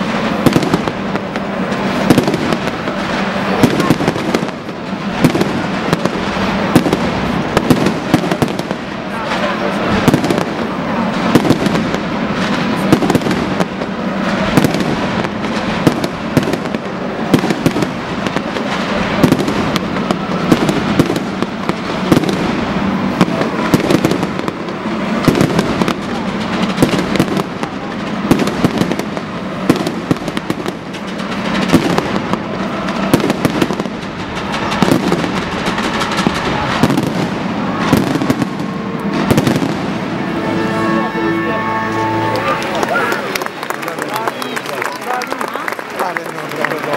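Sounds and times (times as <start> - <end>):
fireworks barrage: 0.0 - 46.9
loud firework bangs: 0.0 - 46.9.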